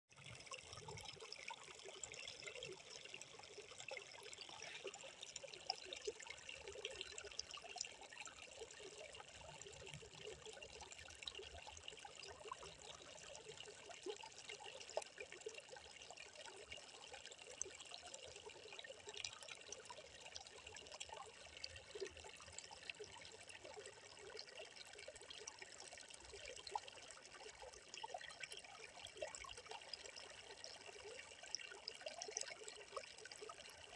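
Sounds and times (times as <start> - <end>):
water trickling over pebbles: 0.1 - 33.9.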